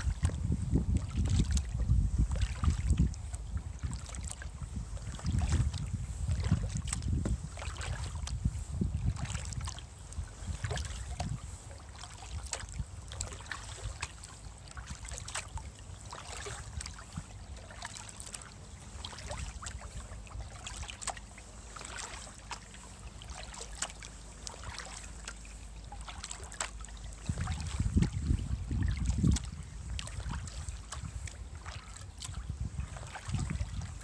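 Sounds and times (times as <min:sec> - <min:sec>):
low steady rumble: 0:00.0 - 0:34.0
paddle splashing in water: 0:00.0 - 0:34.0.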